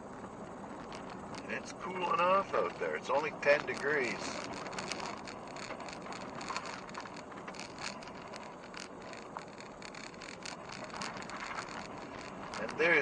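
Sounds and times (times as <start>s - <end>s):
interior rattles and creaks: 0.0s - 13.0s
road noise inside car: 0.0s - 13.0s.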